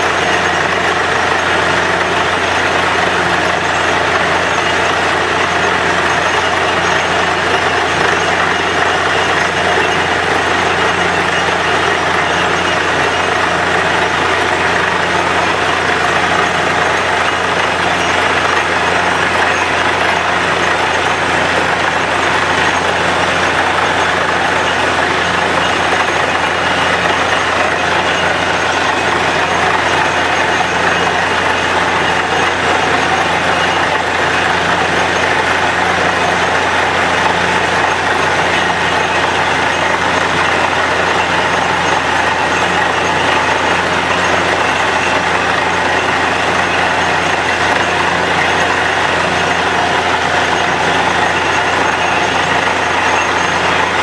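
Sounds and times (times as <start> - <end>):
drilling rig drone: 0.0 - 54.0.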